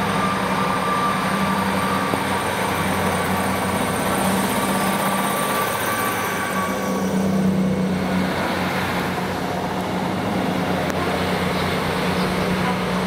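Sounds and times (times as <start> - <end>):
train diesel engines droning: 0.0 - 13.0
train wheel noise: 0.0 - 13.0.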